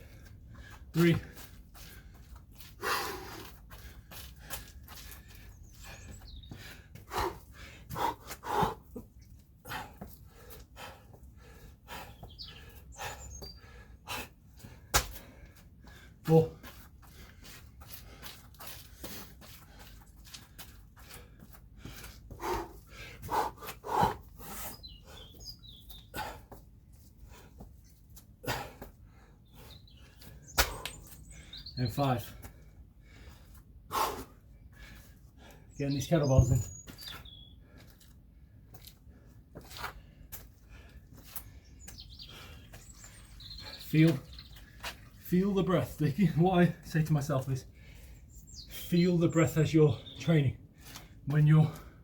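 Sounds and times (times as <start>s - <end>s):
man breathing hard: 0.0s - 25.4s, 26.0s - 31.7s, 32.3s - 35.8s, 37.6s - 43.9s, 47.7s - 48.4s, 50.6s - 52.0s.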